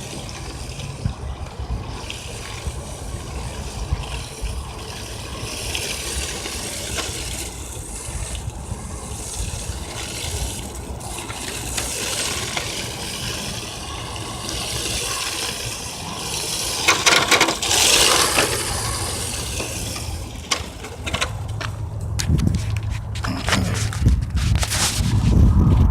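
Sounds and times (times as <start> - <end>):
electric toy car running: 0.0 - 22.0
toy car tires scrubbing on ground: 0.0 - 25.9.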